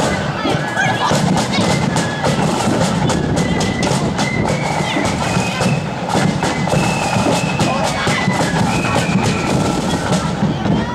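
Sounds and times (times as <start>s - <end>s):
flutes playing a tune: 0.0s - 10.9s
snare drums: 0.0s - 10.9s.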